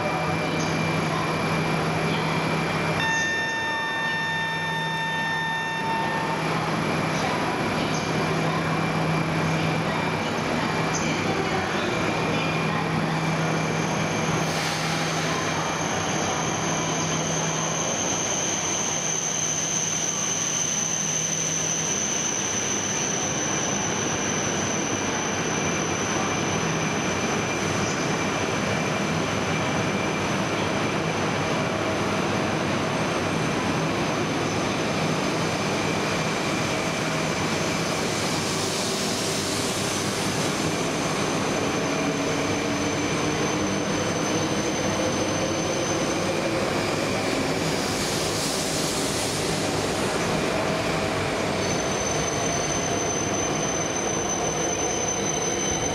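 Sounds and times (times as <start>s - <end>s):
train running noise: 0.0s - 55.9s.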